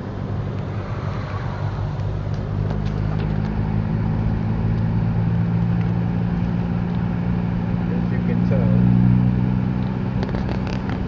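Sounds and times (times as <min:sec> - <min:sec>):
car engine hum: 0:00.0 - 0:11.0
road noise inside car: 0:00.0 - 0:11.0.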